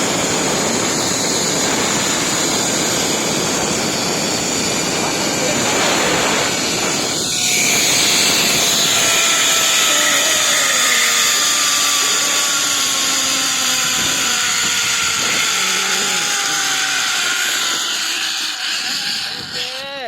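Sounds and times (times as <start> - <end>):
zipline pulleys whirring on cable: 0.0 - 20.0.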